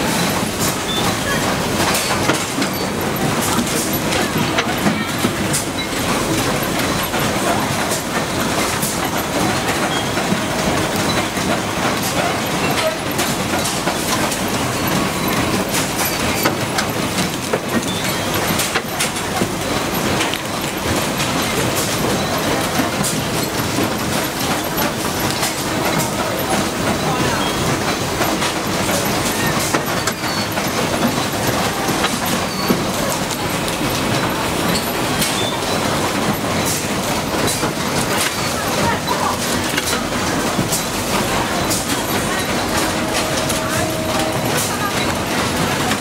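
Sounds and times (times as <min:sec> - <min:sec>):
machinery rattling clatter: 0:00.0 - 0:46.0.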